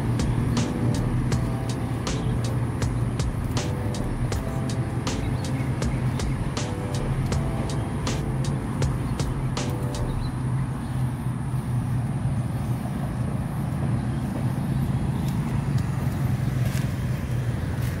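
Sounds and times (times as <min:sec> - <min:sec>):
low engine hum: 0:00.0 - 0:18.0
road traffic noise: 0:00.0 - 0:18.0.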